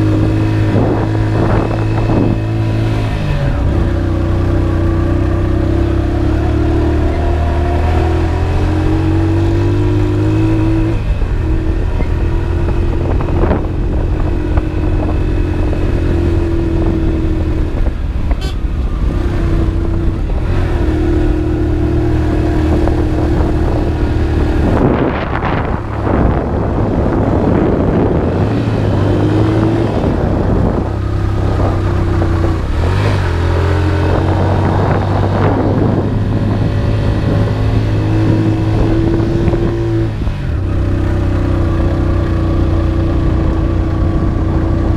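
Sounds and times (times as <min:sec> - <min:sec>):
motorcycle engine running: 0:00.0 - 0:44.9
road and wind noise: 0:00.0 - 0:44.9
rush of noise: 0:00.0 - 0:44.9.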